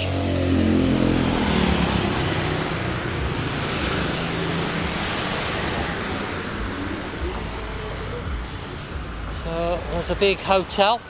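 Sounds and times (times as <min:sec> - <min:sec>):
vehicle passing close by: 0:00.0 - 0:09.2.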